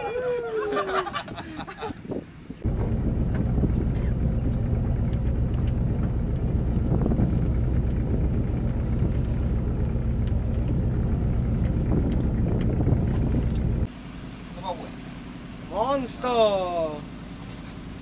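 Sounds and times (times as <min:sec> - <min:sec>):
boat engine humming: 0:02.2 - 0:18.0.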